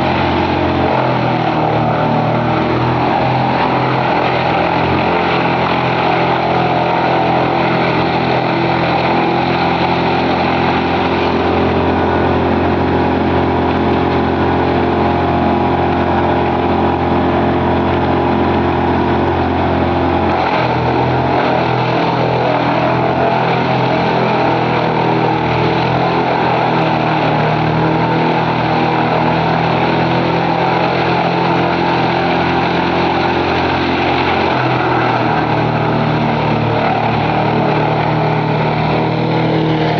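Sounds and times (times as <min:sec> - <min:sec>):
wood chipper engine running: 0:00.0 - 0:39.9.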